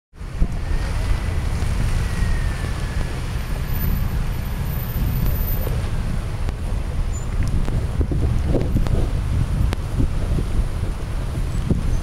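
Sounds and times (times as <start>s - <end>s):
cars passing on slushy street: 0.2s - 12.0s
wind buffeting microphone: 0.2s - 12.0s.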